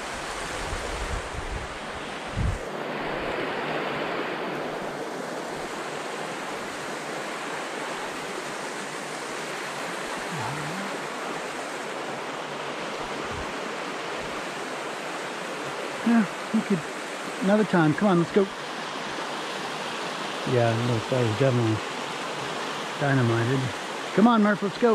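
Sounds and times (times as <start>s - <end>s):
creek water rushing over rocks: 0.0s - 24.9s.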